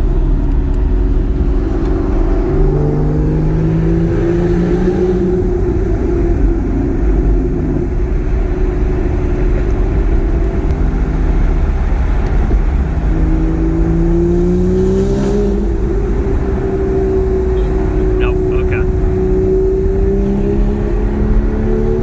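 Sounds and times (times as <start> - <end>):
car engine droning: 0.0 - 22.0.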